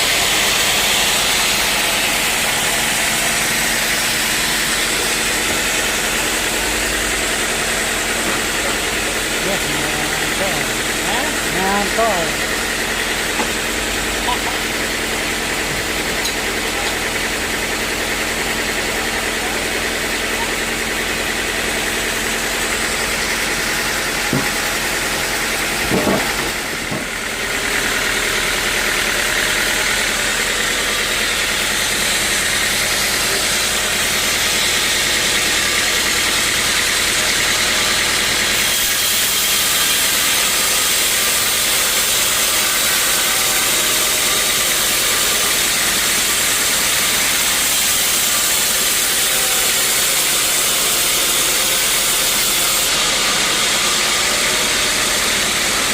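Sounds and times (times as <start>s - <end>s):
sawmill engine drone: 0.0s - 55.9s.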